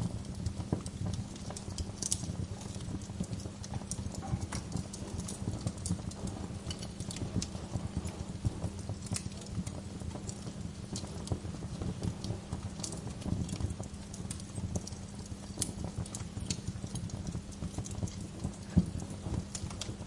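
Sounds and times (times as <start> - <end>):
low rumble of flames: 0.0 - 20.0
sharp fire pops: 0.0 - 20.0
wood fire crackling: 0.0 - 20.0.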